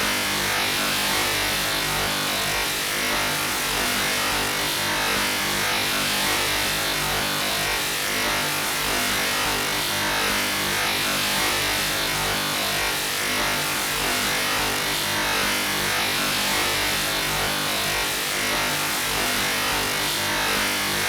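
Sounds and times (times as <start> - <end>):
noisy buzzing chiptune drone: 0.0 - 21.0.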